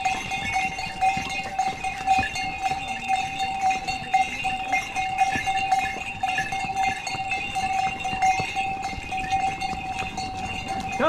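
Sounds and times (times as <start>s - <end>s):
harness bell ringing: 0.0s - 11.0s
hooves on stone path: 0.0s - 11.0s.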